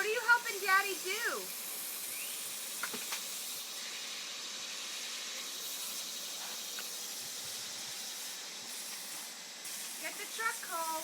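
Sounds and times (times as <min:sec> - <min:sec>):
garden hose spraying water: 0:00.0 - 0:11.0.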